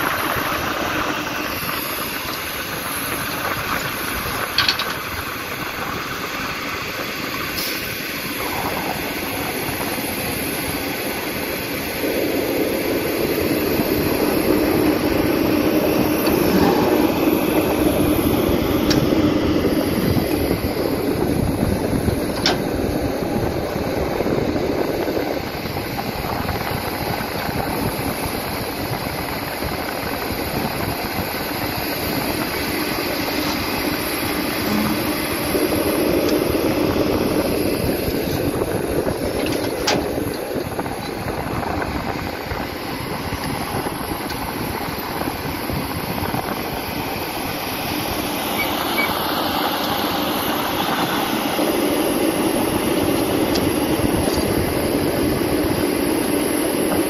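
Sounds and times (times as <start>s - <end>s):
excavator diesel engine under load: 0.0s - 57.0s.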